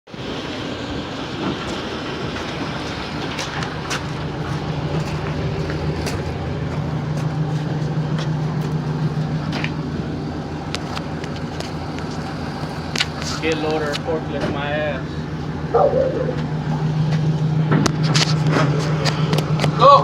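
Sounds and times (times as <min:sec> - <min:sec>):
engine running: 0:00.1 - 0:20.0.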